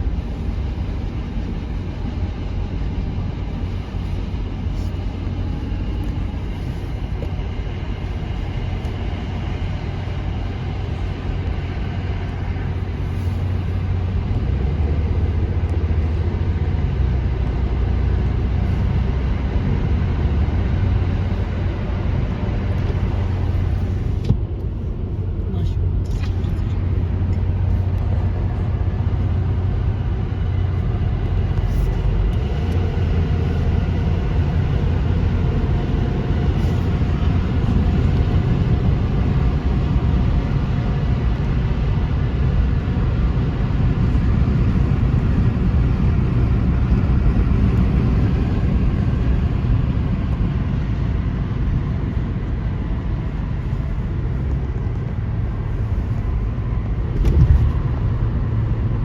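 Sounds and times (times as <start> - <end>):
car driving rumble: 0.0 - 59.0.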